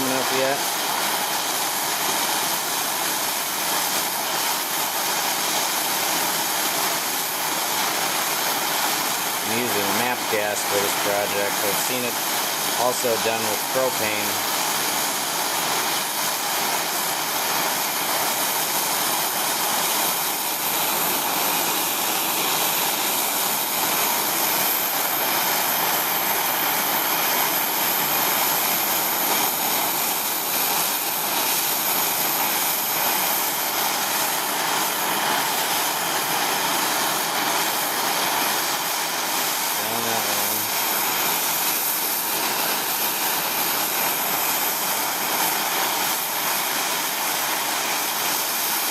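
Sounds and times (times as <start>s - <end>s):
gas torch hissing: 0.0s - 48.9s.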